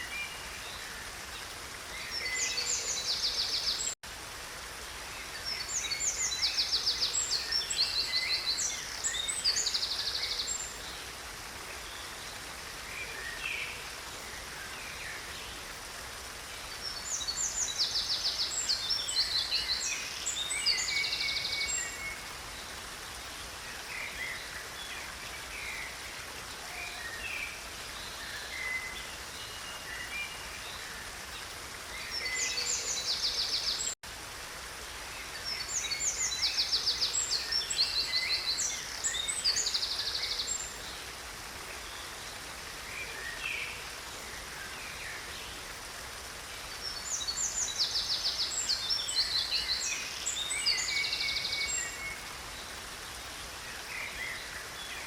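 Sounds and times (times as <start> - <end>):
creek flowing: 0.0 - 55.0.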